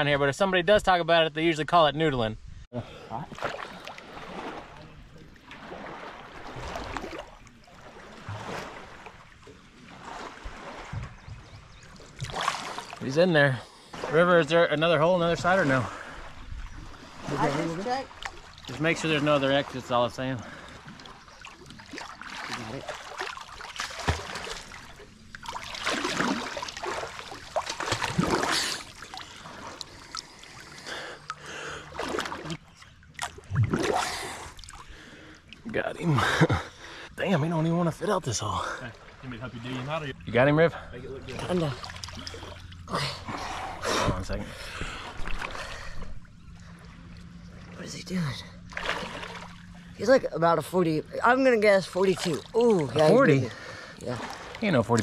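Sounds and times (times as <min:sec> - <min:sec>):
water sloshing and splashing: 0:02.9 - 0:55.0.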